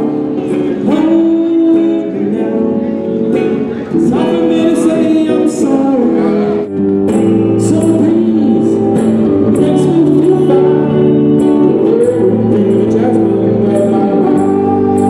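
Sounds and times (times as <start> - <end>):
electric guitars playing rock: 0.0 - 15.0
man singing: 0.0 - 15.0.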